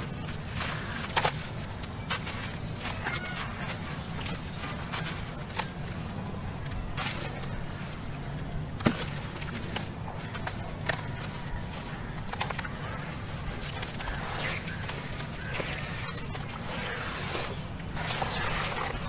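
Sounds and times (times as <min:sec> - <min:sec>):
sharp crackles: 0:00.0 - 0:19.0
steady low rumble: 0:00.0 - 0:19.0.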